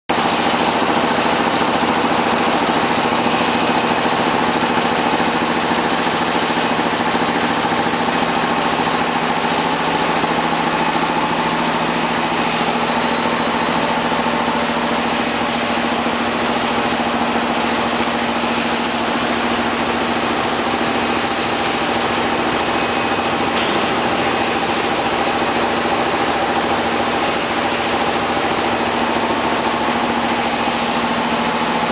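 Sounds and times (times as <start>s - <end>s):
bottling machine humming and hissing: 0.2s - 31.9s.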